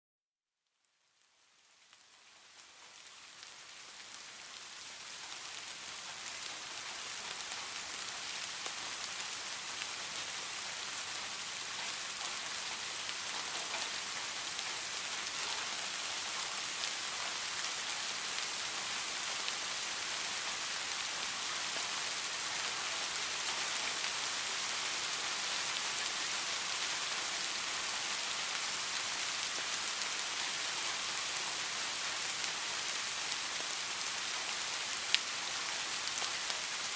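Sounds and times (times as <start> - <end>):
heavy rain hiss: 1.6 - 36.9.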